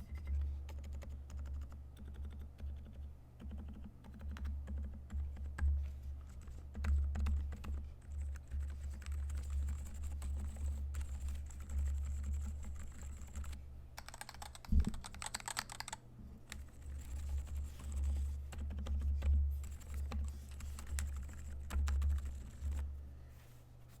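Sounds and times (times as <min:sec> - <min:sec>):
typing on mechanical keyboard: 0:00.0 - 0:05.7, 0:06.3 - 0:22.8.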